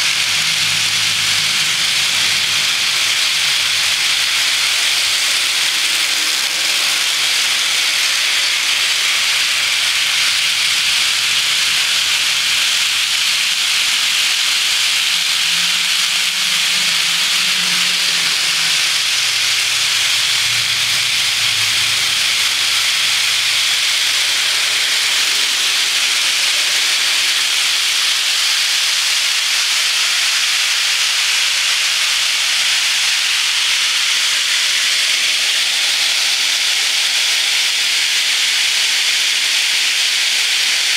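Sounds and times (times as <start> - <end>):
model train wheels hissing: 0.0 - 40.9.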